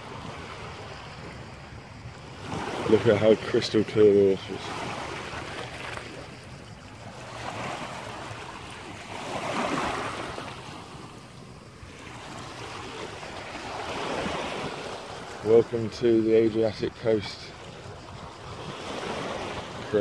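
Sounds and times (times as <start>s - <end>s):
waves lapping on stony shore: 0.0s - 20.0s.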